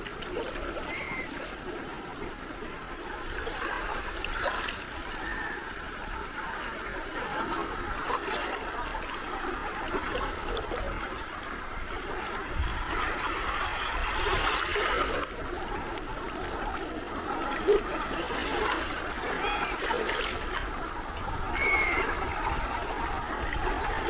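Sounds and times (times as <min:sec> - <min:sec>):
sea waves lapping at shore: 0:00.0 - 0:24.0.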